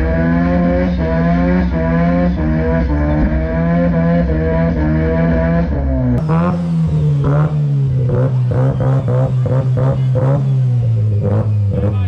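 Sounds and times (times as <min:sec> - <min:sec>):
turbo engine at high revs: 0:00.0 - 0:12.0.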